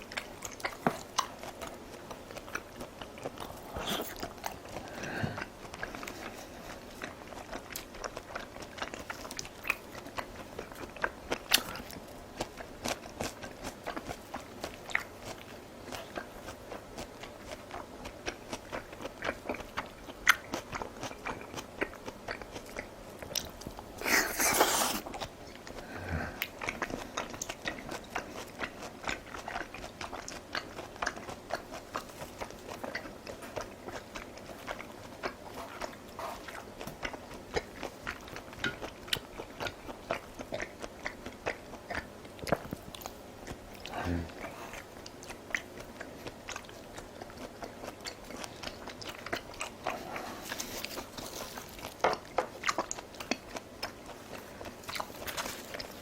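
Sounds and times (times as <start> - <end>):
wet chewing and crunching: 0.0 - 56.0.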